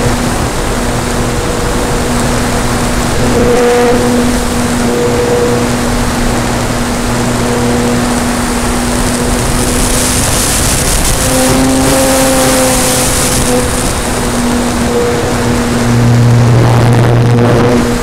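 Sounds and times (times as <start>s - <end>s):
electric motor and propeller hum: 0.0s - 18.0s
wind rushing: 0.0s - 18.0s.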